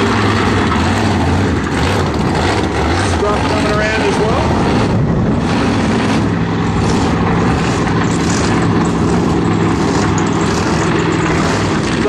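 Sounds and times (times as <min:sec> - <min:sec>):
monster truck engine running loud: 0:00.0 - 0:12.0.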